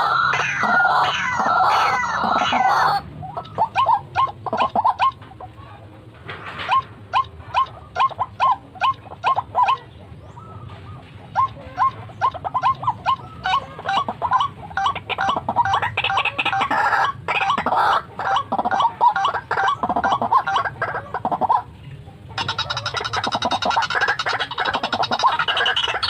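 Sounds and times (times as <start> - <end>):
waterhen harsh calls: 0.0 - 5.9, 6.6 - 21.8, 22.4 - 26.0.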